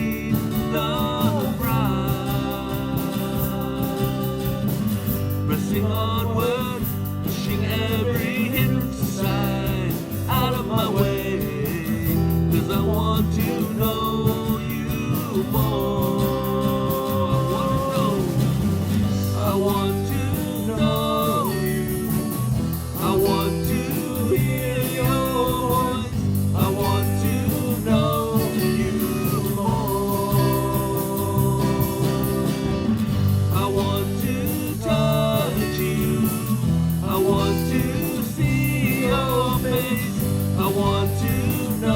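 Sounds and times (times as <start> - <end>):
guitar: 0.0 - 41.9
person singing: 0.0 - 41.9
worship band playing: 0.0 - 41.9.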